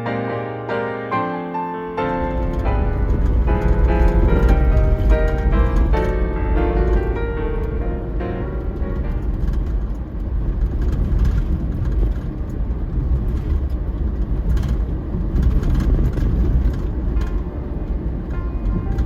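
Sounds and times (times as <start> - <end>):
car driving on road: 2.1 - 19.0.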